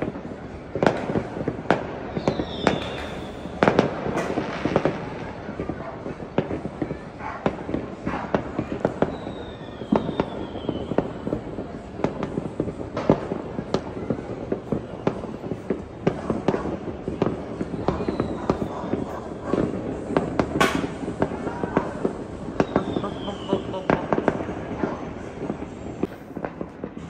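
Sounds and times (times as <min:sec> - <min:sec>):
fireworks bangs and pops: 0:00.0 - 0:27.0.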